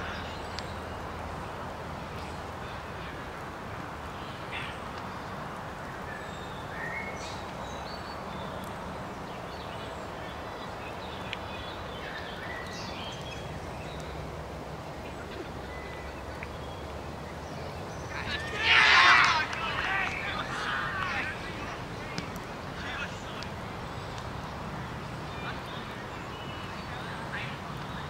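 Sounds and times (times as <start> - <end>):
low background noise: 0.0 - 28.0.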